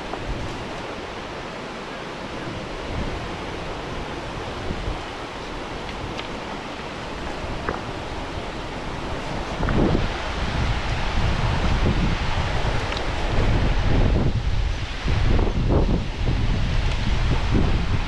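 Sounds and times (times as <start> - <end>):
water rushing over a weir: 0.0 - 18.0
wind buffeting microphone: 0.0 - 18.0.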